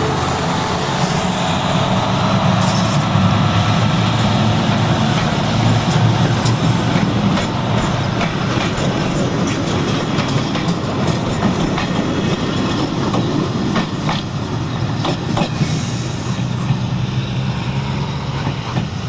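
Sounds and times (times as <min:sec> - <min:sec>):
diesel locomotive engine: 0:00.0 - 0:19.0
passenger coaches rolling by: 0:00.0 - 0:19.0.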